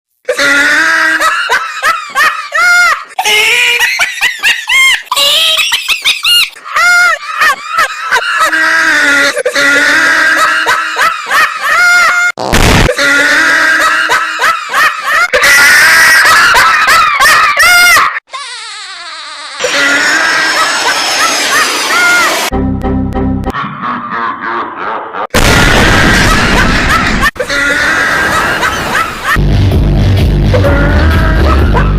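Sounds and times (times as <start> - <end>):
high-pitched laughter: 0.3 - 22.5, 23.5 - 25.3, 26.0 - 29.4, 30.6 - 31.9.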